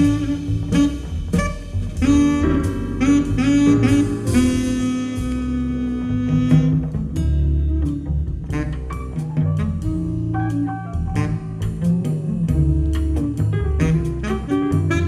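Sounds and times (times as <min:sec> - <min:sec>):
walking bass: 0:00.0 - 0:15.0
wind instrument jazz melody: 0:00.0 - 0:15.0.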